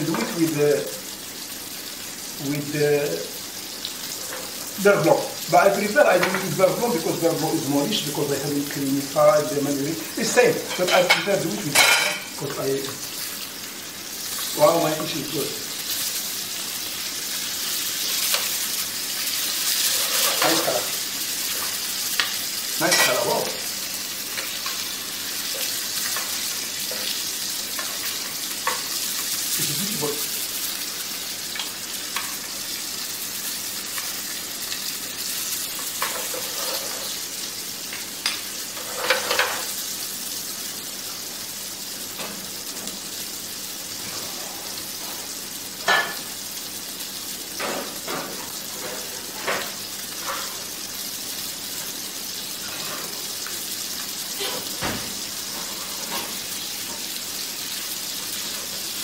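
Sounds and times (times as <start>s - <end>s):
fish sizzling in a pan: 0.0s - 59.0s.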